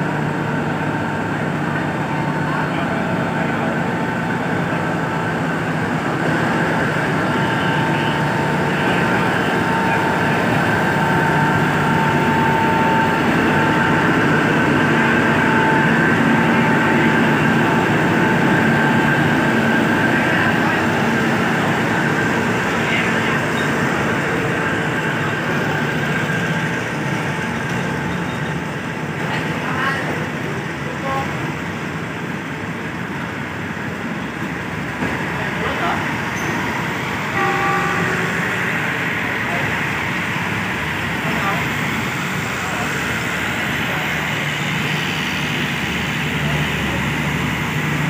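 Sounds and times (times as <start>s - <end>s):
diesel locomotive whine: 0.0s - 48.0s
train coaches rolling past: 0.0s - 48.0s.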